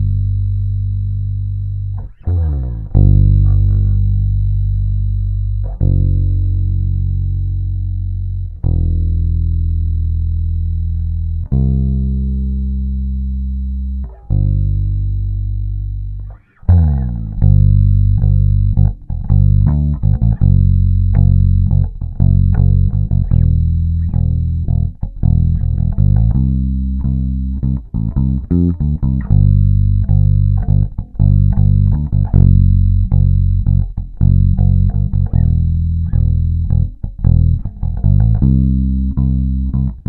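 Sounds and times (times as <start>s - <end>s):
electric bass riff: 0.0s - 40.0s.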